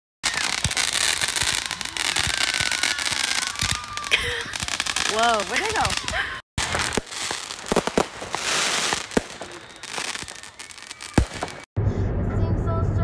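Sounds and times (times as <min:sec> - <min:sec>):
firework bang: 0:00.2 - 0:11.7
fireworks popping and crackling: 0:00.2 - 0:11.7.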